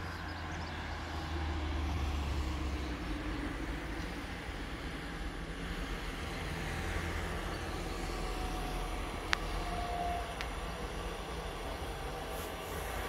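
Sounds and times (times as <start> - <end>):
distant train rumble: 0.0 - 13.0.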